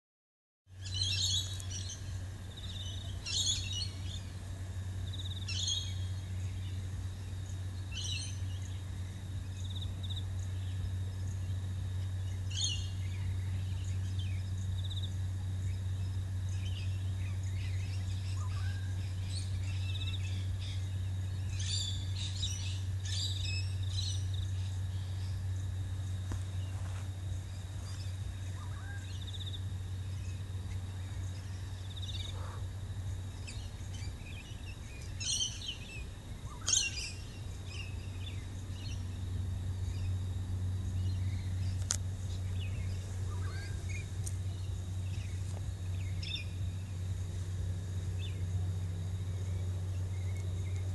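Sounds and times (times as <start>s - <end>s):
birds chirping: 0.7s - 50.9s
steady low hum: 0.7s - 50.9s.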